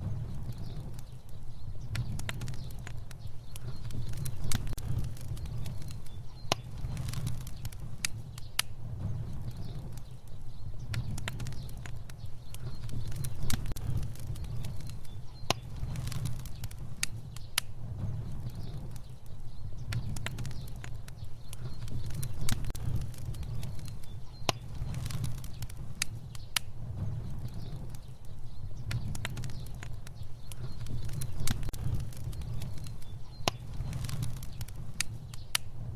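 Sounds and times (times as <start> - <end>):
fire crackling: 0.0 - 35.9.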